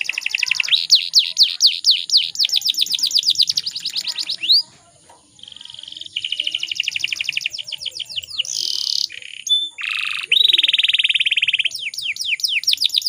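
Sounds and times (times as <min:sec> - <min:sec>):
canary singing in trills: 0:00.0 - 0:13.0.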